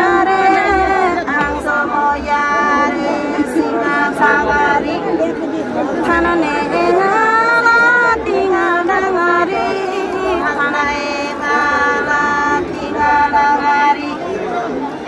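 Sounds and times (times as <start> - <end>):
woman singing folk song: 0.0 - 14.5.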